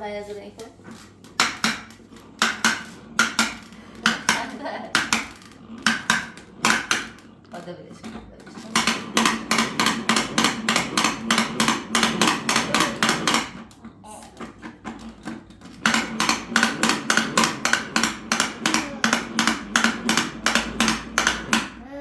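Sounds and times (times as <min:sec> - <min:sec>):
rapid hard knocking: 0:00.9 - 0:13.7, 0:14.5 - 0:21.9.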